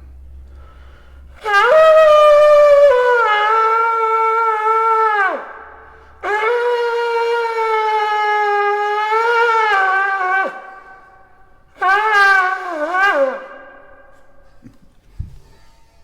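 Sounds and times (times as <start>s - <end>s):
horn blowing long notes: 0.4s - 14.8s.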